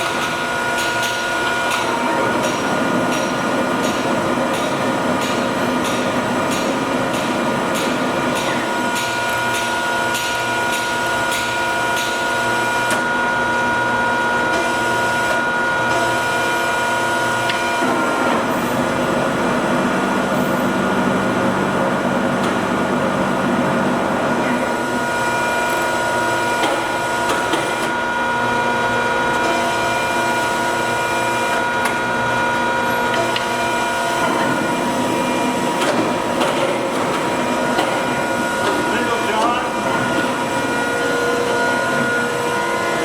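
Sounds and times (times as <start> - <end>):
lathe machine hum and gear whine: 0.0 - 43.0.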